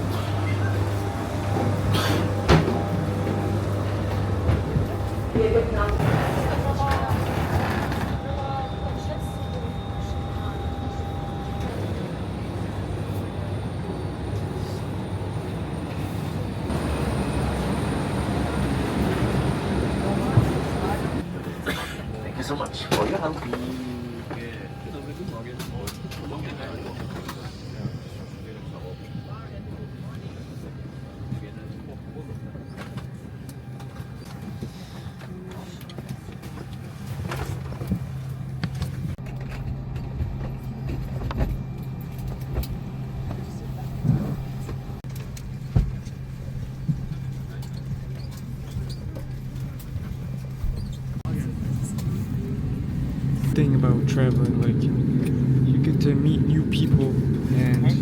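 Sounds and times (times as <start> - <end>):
air conditioning running: 0.0 - 27.2, 33.2 - 58.0
aircraft cabin low hum: 0.0 - 58.0.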